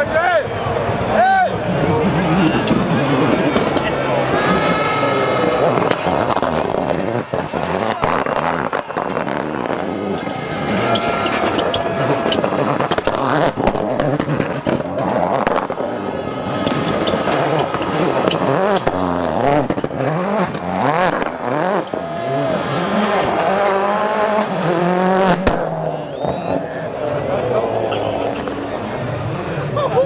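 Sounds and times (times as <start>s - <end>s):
car engine revving hard: 0.8s - 30.0s
tyres squealing: 1.5s - 27.1s, 27.7s - 30.0s.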